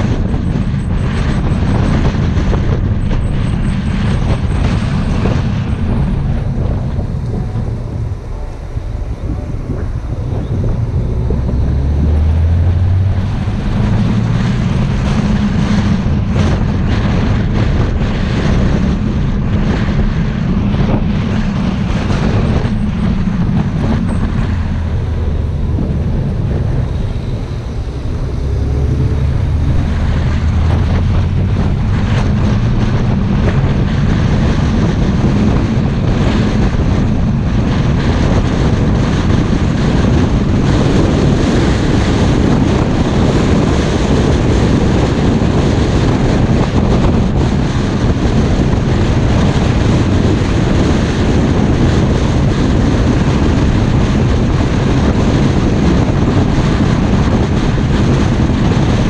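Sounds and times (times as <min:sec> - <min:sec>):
car engine hum: 0:00.0 - 0:59.0
road and wind noise: 0:00.0 - 0:59.0.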